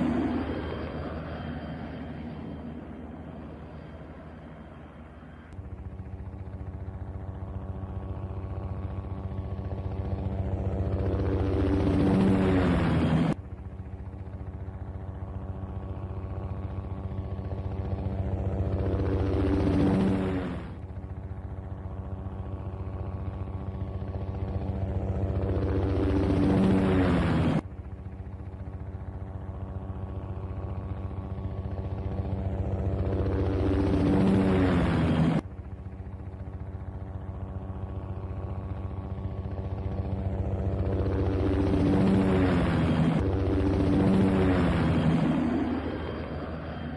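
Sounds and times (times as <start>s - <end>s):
helicopter rotor chop: 0.0s - 46.9s.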